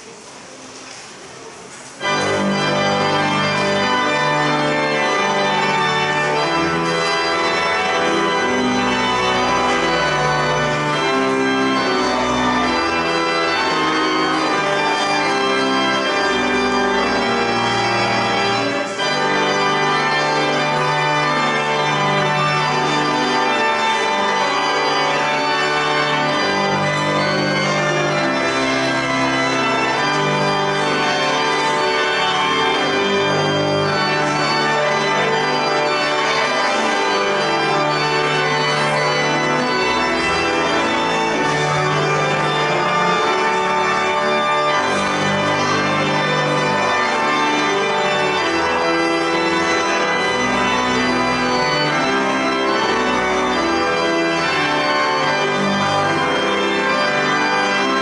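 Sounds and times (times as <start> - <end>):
church organ chords: 2.0 - 58.0.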